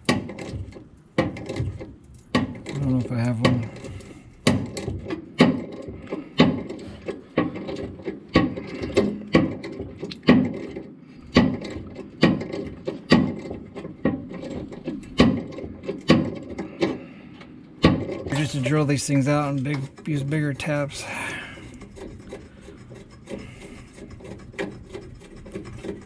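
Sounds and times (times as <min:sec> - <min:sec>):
tap scraping metal: 0:00.0 - 0:26.0.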